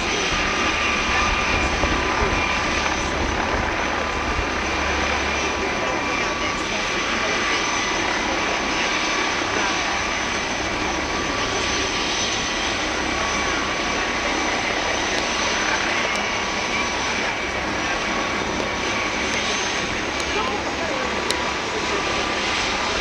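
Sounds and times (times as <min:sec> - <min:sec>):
engine and rotor rush: 0:00.0 - 0:23.0
helicopter turbine whine: 0:00.0 - 0:23.0.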